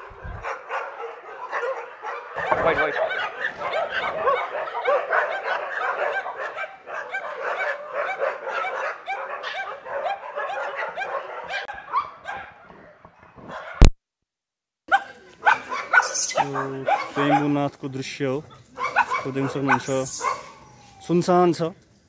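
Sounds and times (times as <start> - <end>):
dogs barking: 0.0 - 13.9, 14.9 - 17.7, 18.3 - 21.0.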